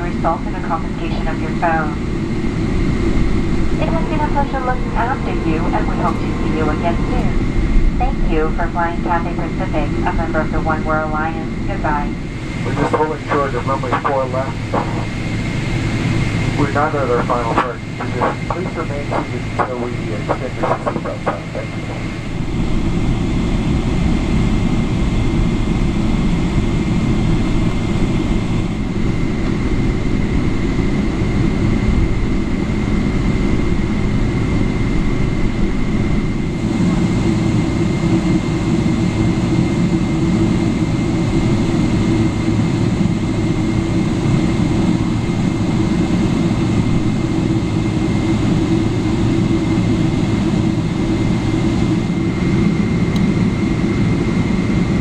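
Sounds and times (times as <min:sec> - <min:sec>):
aircraft cabin low rumble: 0:00.0 - 0:55.0.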